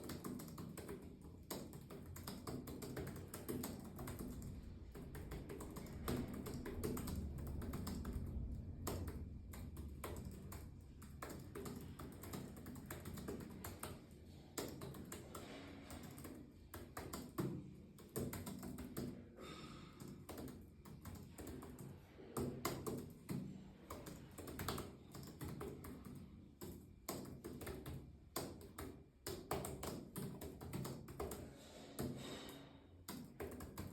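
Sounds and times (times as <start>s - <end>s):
typing on computer keyboard: 0.0s - 32.2s, 33.0s - 33.9s.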